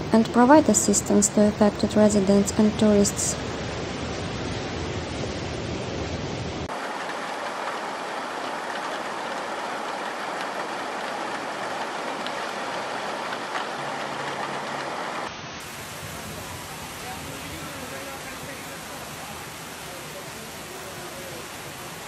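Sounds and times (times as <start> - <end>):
floodwater rushing: 0.0 - 22.0
heavy rain pouring: 0.0 - 22.0.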